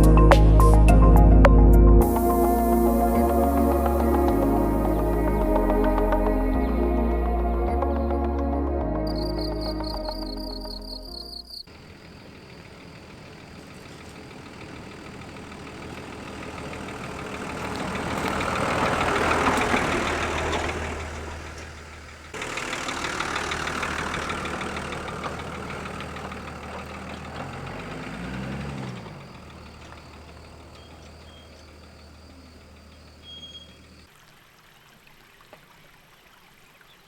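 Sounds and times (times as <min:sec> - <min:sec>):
vehicle engine driving past: 0:02.0 - 0:34.1.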